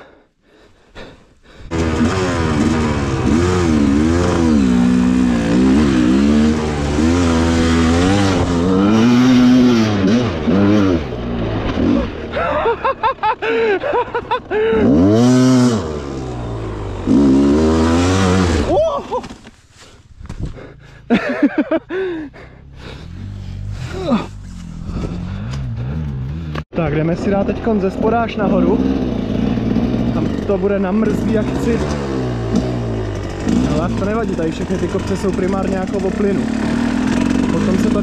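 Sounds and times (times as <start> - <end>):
dirt bike engine revving: 1.6 - 18.8, 20.6 - 26.6, 27.2 - 38.0.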